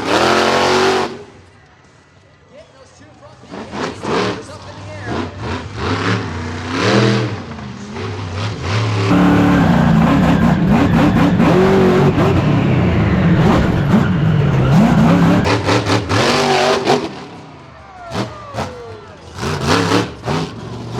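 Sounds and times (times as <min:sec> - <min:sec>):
monster truck engine revving: 0:00.0 - 0:01.4, 0:03.4 - 0:20.9.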